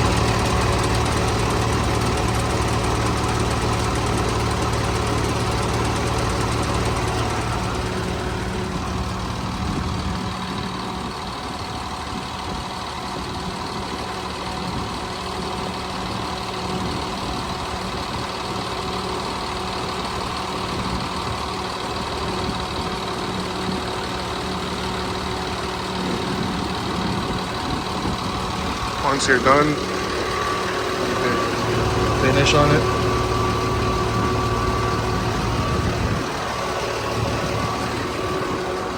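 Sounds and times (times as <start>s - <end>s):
fuel pump running: 0.0s - 38.9s
truck engine running: 0.0s - 38.9s.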